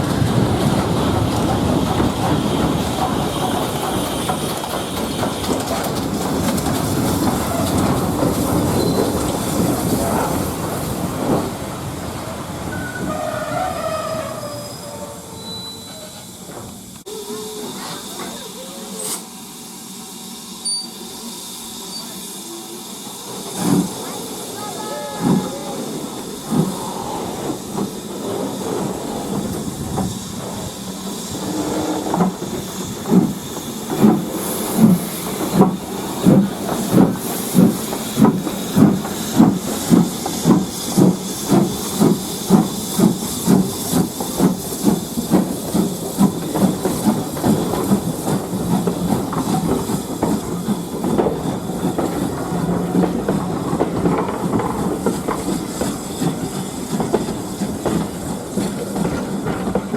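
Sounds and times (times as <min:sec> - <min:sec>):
steam locomotive exhaust beats: 0:00.0 - 0:59.9
steam locomotive hissing steam: 0:00.0 - 0:59.9.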